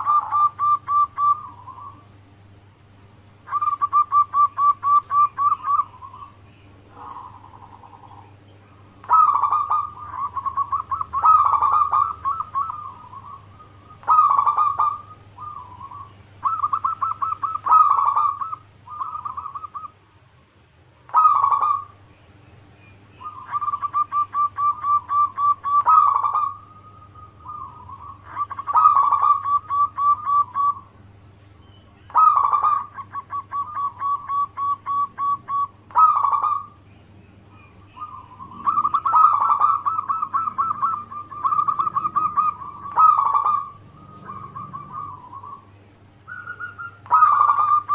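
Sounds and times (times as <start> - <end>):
dove cooing: 0.0 - 2.3, 3.4 - 20.0, 21.1 - 22.0, 23.1 - 31.2, 32.0 - 47.9.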